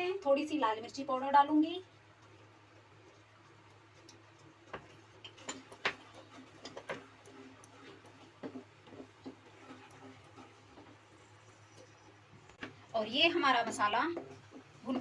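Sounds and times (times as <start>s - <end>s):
wooden spatula scraping a pan: 2.2s - 15.0s.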